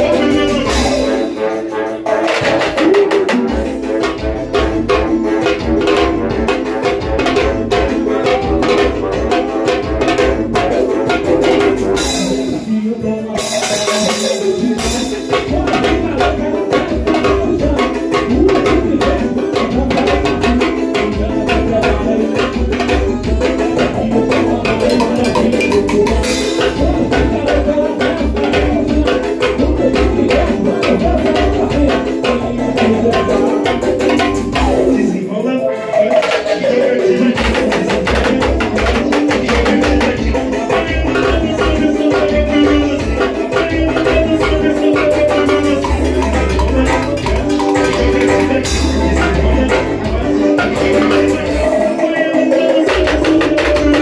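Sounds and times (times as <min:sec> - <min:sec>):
drum kit fast beat: 0:00.0 - 0:54.0
live band music over pa: 0:00.0 - 0:54.0.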